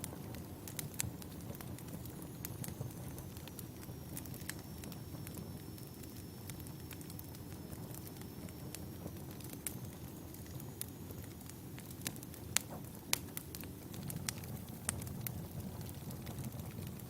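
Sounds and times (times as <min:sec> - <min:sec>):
firewood crackling and popping: 0:00.0 - 0:17.0
low rumble of flames: 0:00.0 - 0:17.0.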